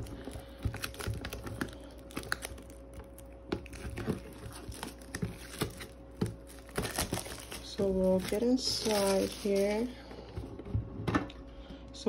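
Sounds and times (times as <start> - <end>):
plastic shrink-wrap crinkling: 0.0 - 10.0.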